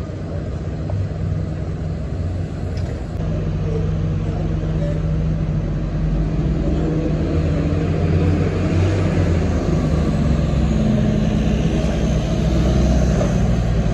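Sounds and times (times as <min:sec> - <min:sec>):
bus driving past: 0:00.0 - 0:13.9
bus engine idling: 0:00.0 - 0:13.9.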